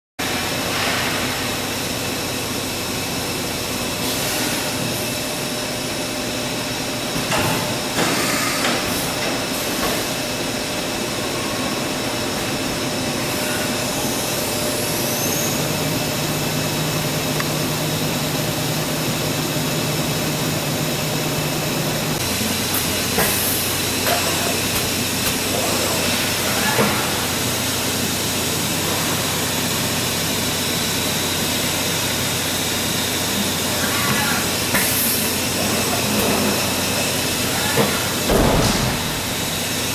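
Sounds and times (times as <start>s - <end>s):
machines humming and hissing: 0.2s - 39.9s.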